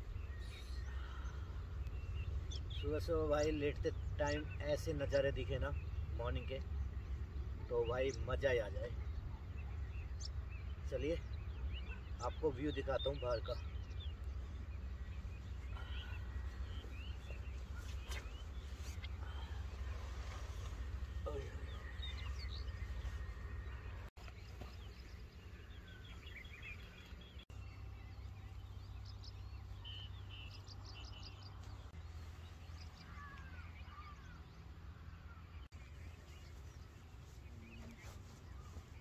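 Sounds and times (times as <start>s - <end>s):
low steady rumble: 0.0s - 39.0s
wild birds chirping and trilling: 0.0s - 39.0s.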